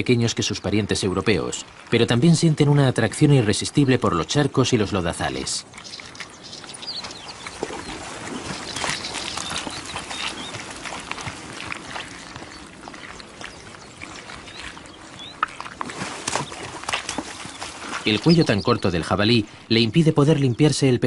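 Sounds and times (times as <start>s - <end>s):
mud squelching and splashing: 0.0s - 19.7s.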